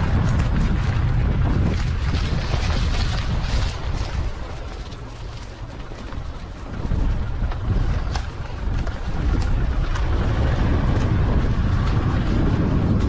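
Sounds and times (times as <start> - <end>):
vehicle rumbling on dirt track: 0.0 - 13.0.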